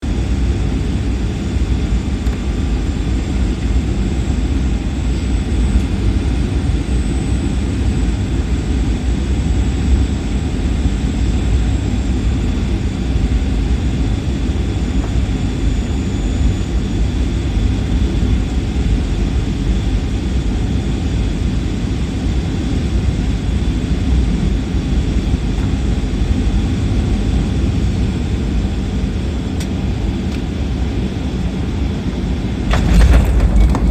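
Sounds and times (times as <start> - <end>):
jet engines roaring in cabin: 0.0 - 33.9.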